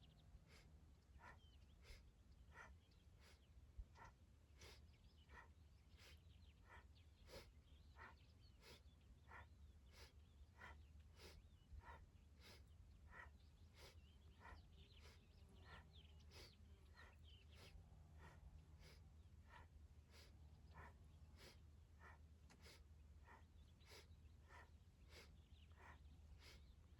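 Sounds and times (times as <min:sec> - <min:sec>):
rhythmic breathing: 0:00.5 - 0:26.6.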